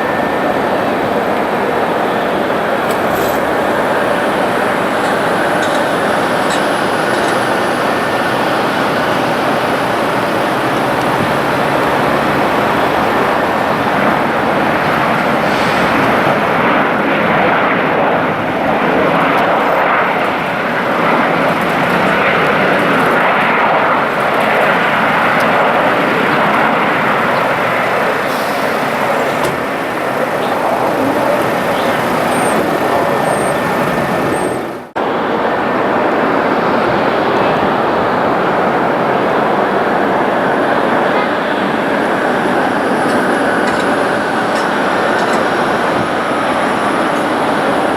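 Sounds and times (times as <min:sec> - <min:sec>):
jet airliner engines: 0:00.0 - 0:47.9.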